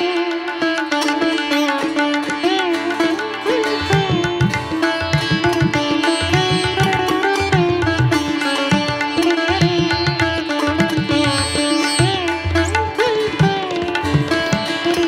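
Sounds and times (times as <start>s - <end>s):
plucked-string melody with bending notes: 0.0s - 15.0s.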